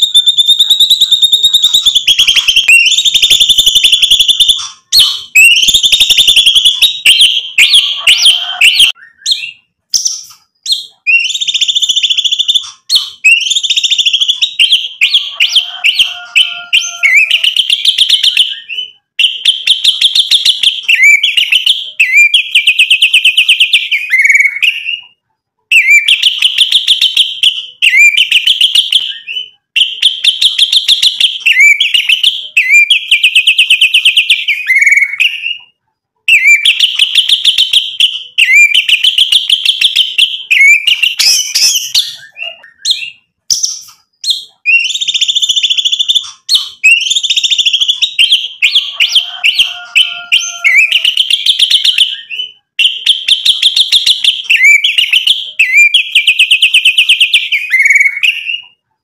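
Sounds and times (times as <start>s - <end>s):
songbird singing: 0.0s - 58.8s.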